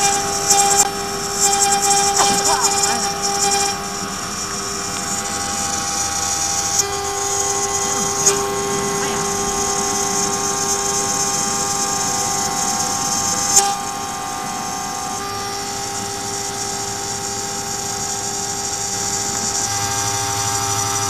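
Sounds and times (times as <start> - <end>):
end mill cutting metal: 0.0 - 21.0
router spindle whining: 0.0 - 21.0.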